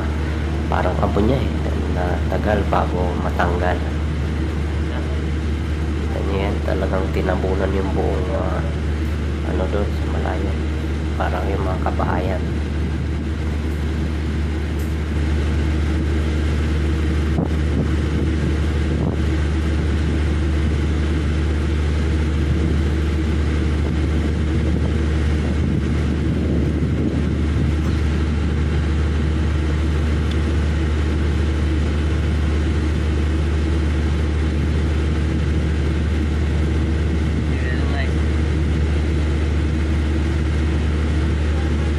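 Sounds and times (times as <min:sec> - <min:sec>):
engine rumbling: 0:00.0 - 0:41.9.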